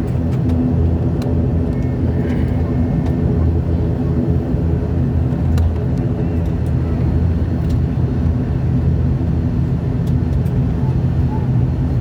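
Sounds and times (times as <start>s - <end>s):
aircraft engines humming: 0.0s - 12.0s.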